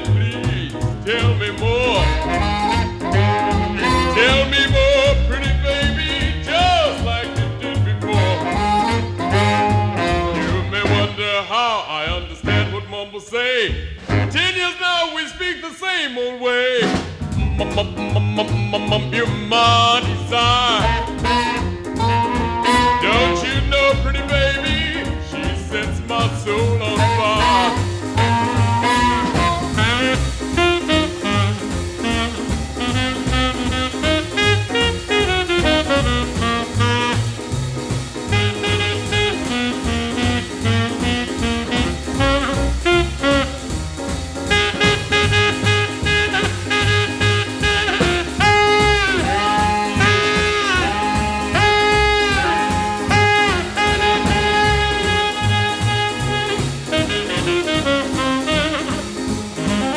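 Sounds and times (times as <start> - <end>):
swing jazz band with horns: 0.0 - 15.4, 16.7 - 59.9.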